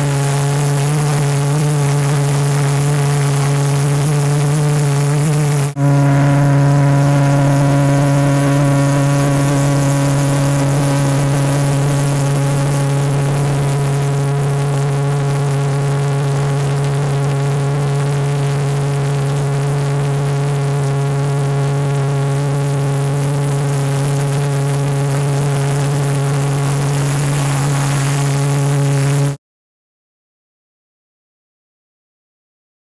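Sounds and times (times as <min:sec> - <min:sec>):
jet engine droning with hiss: 0:00.0 - 0:29.4.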